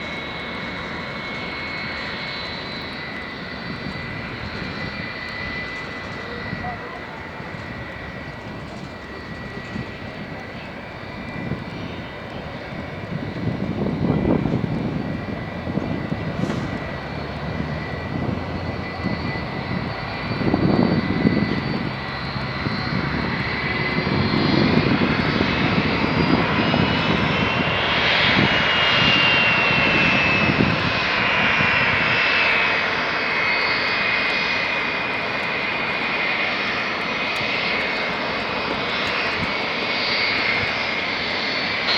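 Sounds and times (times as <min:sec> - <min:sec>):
jet engines whining: 0:00.0 - 0:41.9.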